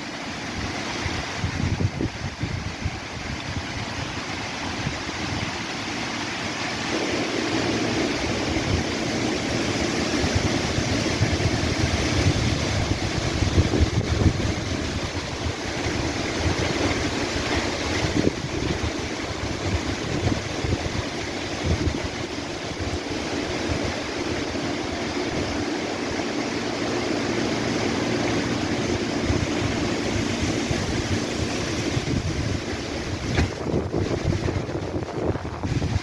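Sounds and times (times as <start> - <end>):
steady low rumble: 0.0 - 36.0
wind buffeting microphone: 0.0 - 36.0
wind rustling leaves: 0.0 - 36.0.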